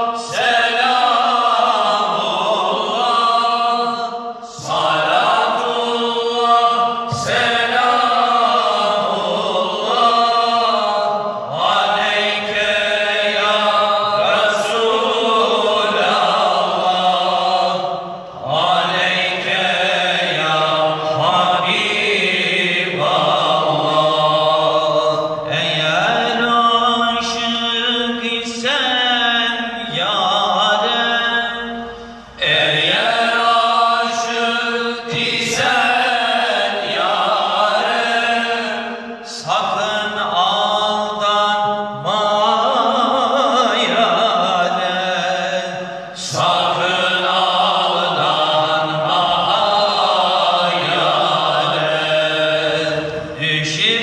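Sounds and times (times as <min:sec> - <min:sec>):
man singing into microphone: 0:00.0 - 0:54.0.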